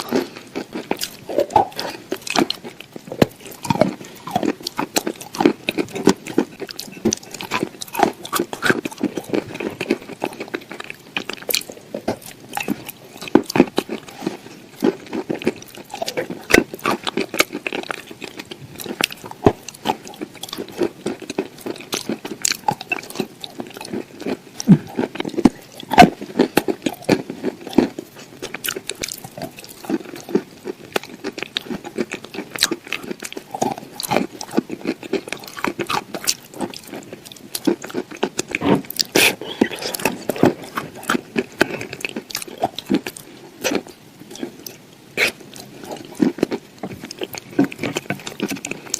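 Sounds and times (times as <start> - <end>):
person chewing crunchy food: 0.0 - 48.9.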